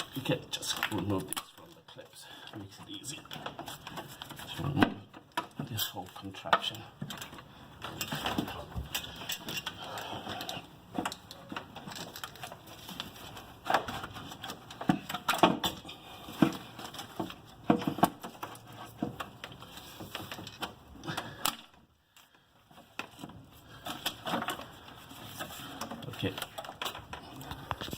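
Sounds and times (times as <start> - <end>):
plastic engine parts clicking and knocking: 0.0 - 27.9.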